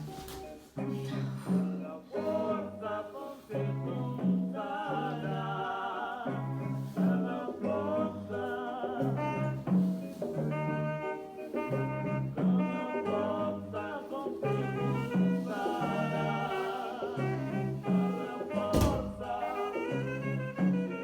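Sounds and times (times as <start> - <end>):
jazzy song with singing: 0.0 - 21.0.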